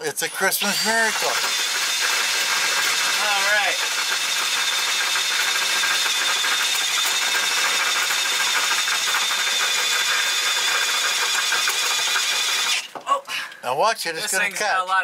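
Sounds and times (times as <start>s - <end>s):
drill boring through steel: 0.0s - 13.0s.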